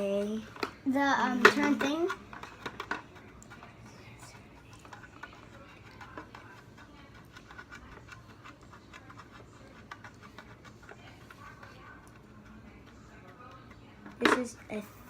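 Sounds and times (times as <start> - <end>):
plastic toy clicks and scrapes: 0.2 - 12.3.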